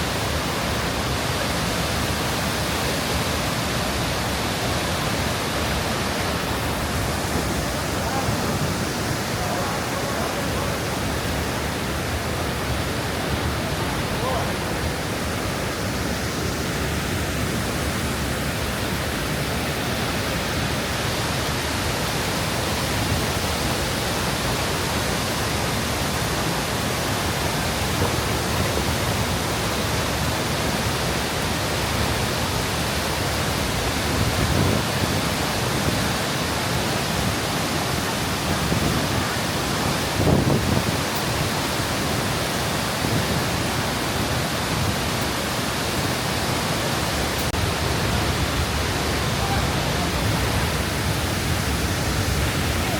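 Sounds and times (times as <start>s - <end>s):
waterfall roaring: 0.0s - 52.9s.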